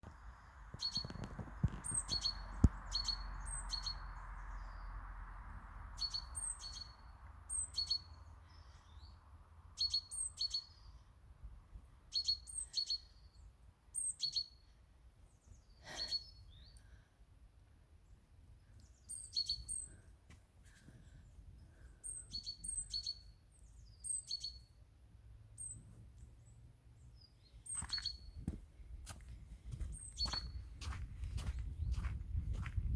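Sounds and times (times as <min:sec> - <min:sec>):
small bird chirping: 0:00.0 - 0:05.0, 0:05.9 - 0:11.2, 0:12.0 - 0:17.1, 0:18.0 - 0:20.1, 0:21.2 - 0:24.9, 0:25.5 - 0:28.5, 0:29.8 - 0:32.6.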